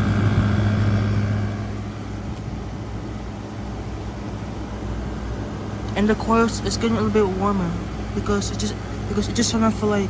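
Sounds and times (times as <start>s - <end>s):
window air conditioner running: 0.0s - 10.0s.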